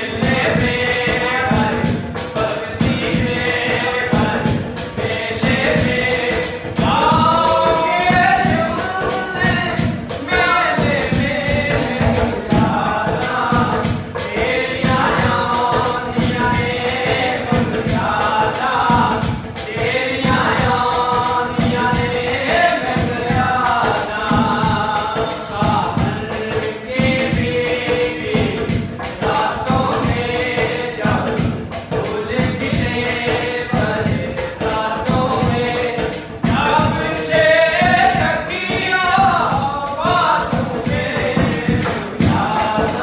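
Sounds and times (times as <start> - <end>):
hand drumming on metal pot: 0.0 - 43.0
men singing folk song: 0.0 - 43.0.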